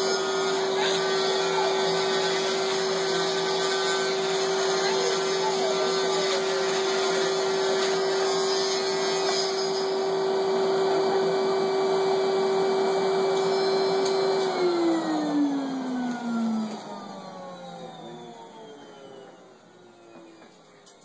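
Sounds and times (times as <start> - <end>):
cast saw whining: 0.0 - 21.0.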